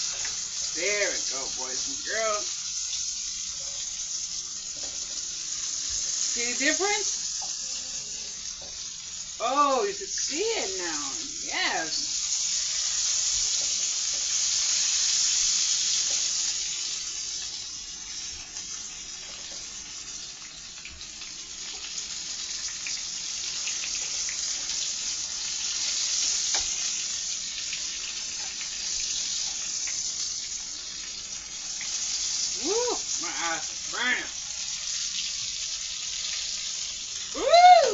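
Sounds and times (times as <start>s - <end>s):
food frying sizzle: 0.0s - 37.9s.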